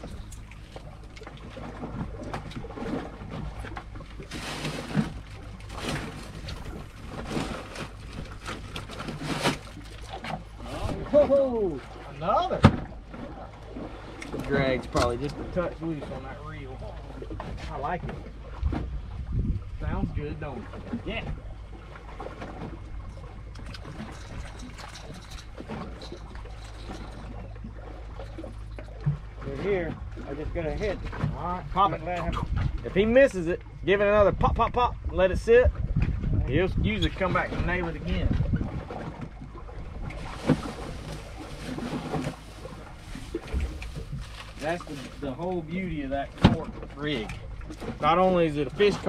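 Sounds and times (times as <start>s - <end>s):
steady low hum: 0.0s - 49.0s
water slapping against boat hull: 0.0s - 49.0s.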